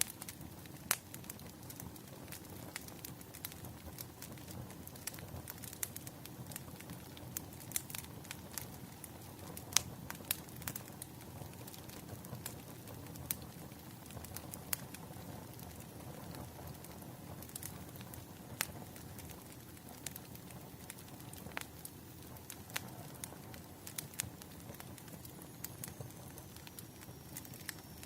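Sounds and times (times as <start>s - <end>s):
fire pops and snaps: 0.0s - 28.0s
wood fire crackling: 0.0s - 28.0s.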